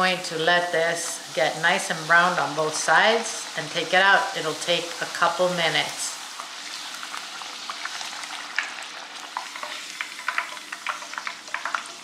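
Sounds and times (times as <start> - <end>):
tortilla sizzling in hot oil: 0.0 - 12.0.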